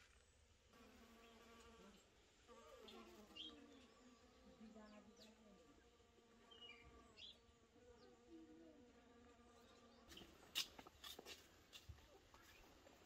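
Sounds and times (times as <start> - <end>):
flying insect buzzing: 0.7 - 11.9.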